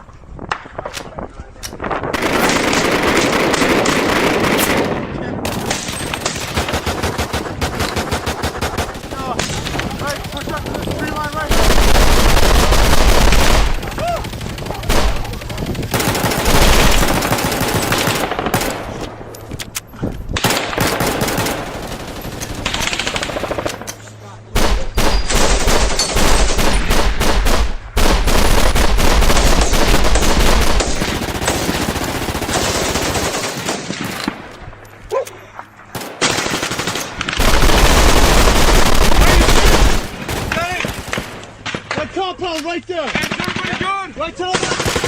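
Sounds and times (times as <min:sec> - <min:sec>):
machine-gun fire: 0:02.1 - 0:18.9, 0:20.4 - 0:23.9, 0:24.6 - 0:34.4, 0:36.0 - 0:41.9, 0:44.5 - 0:45.0.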